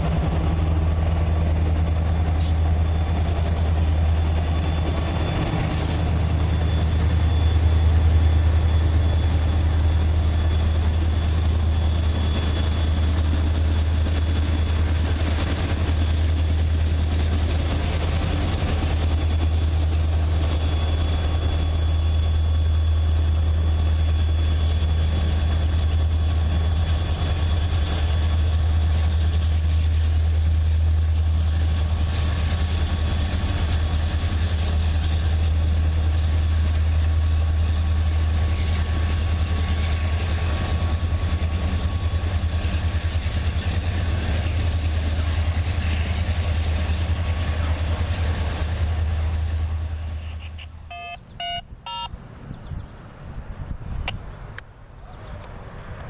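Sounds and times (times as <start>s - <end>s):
diesel locomotive engine idling: 0.0s - 56.0s.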